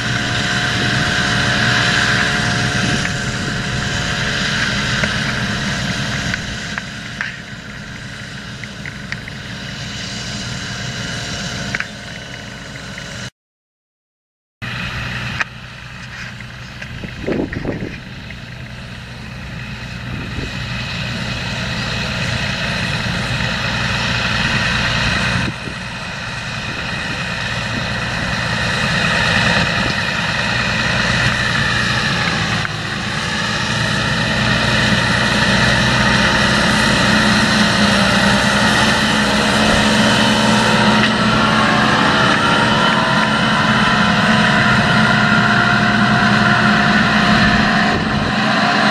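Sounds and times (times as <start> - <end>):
high-pitched whine: 0.0 - 13.3, 14.6 - 48.9
tractor diesel engine under load: 0.0 - 13.3, 14.6 - 48.9.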